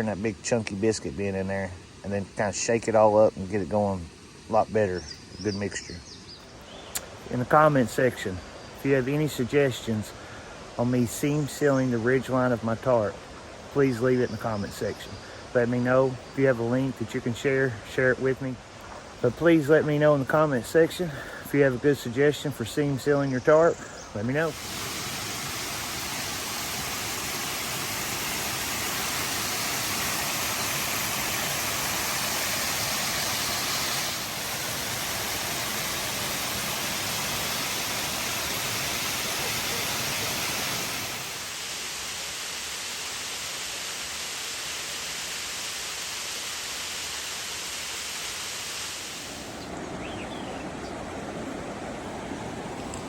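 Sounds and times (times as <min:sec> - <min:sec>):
rushing creek water: 0:00.0 - 0:53.0.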